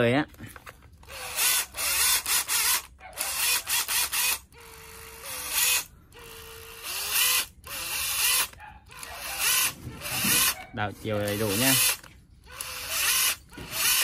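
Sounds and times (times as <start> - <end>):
impact driver motor whirring: 0.6 - 14.0.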